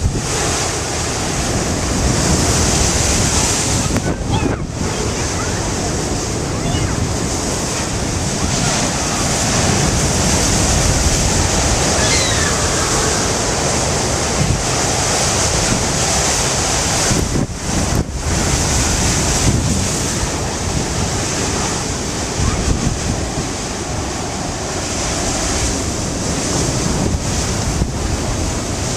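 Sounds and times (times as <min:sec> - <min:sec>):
storm surf crashing: 0:00.0 - 0:28.9
wind buffeting microphone: 0:00.0 - 0:28.9.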